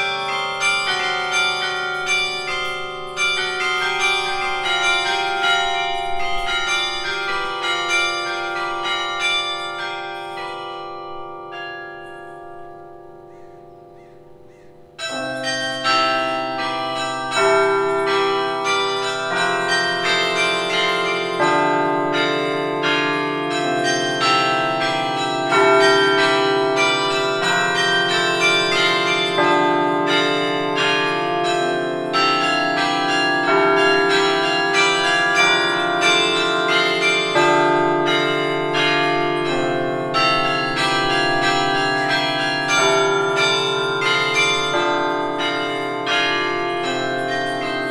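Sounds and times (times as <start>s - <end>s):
carillon bells playing a tune: 0.0s - 13.9s, 15.0s - 47.9s.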